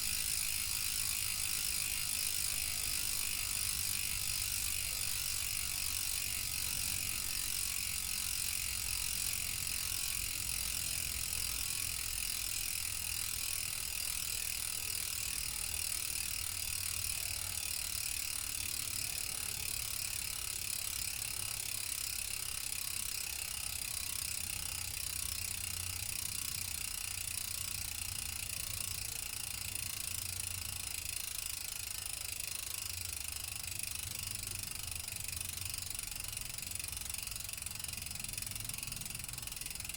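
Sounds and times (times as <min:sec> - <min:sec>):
bicycle freehub clicking: 0:00.0 - 0:39.9.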